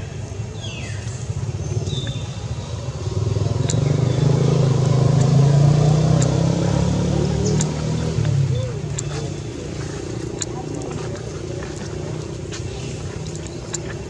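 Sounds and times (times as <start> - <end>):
vehicle engine passing: 1.3 - 14.0.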